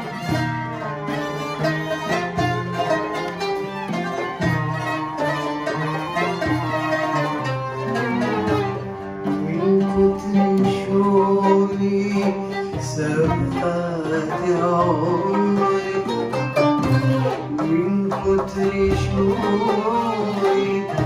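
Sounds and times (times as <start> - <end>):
bowed violin and viola: 0.0 - 21.0
plucked oud and qanun: 0.0 - 21.0.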